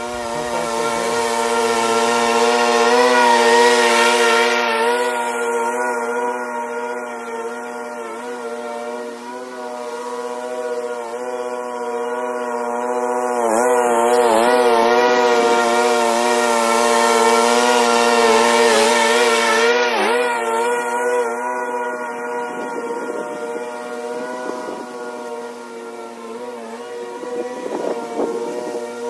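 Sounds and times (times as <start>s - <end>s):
blades cutting grass: 0.0s - 29.0s
riding mower engine running: 0.0s - 29.0s.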